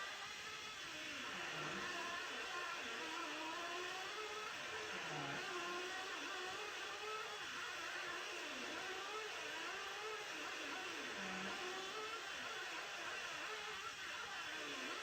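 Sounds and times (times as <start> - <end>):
small nitro engines revving: 0.4 - 15.0.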